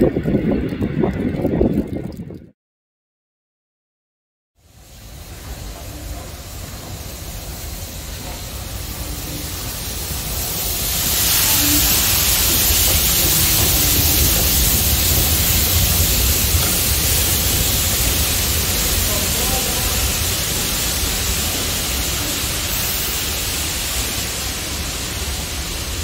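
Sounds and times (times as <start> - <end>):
steam train approaching: 4.6 - 26.0
strong hissing rush: 4.6 - 26.0.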